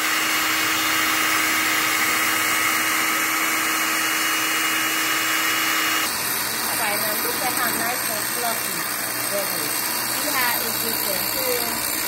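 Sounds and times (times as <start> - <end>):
electric hand mixer running: 0.0 - 12.0.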